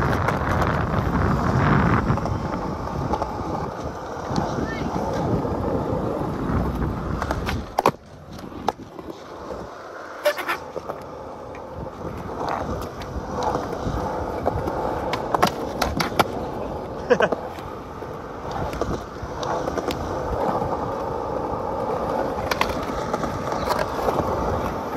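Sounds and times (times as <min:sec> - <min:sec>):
skateboard clacks: 0:00.0 - 0:24.9
skateboard wheels rolling on concrete: 0:00.0 - 0:24.9.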